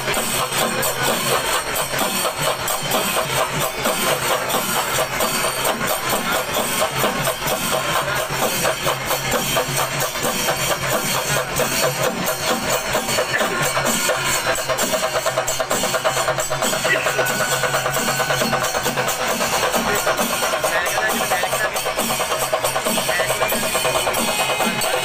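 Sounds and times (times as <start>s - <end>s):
large crowd noise: 0.0s - 25.0s
rapid percussion drumming: 0.0s - 25.0s.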